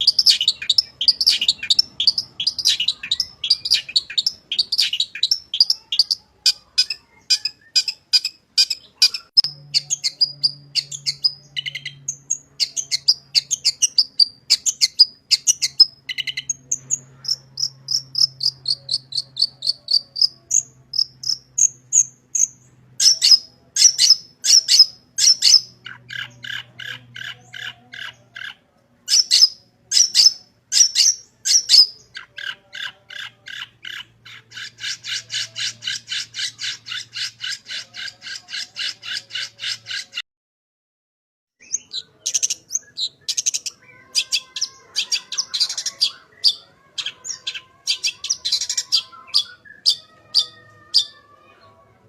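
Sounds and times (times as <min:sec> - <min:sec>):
bird singing chattering song: 0:00.0 - 0:40.2, 0:41.6 - 0:51.2.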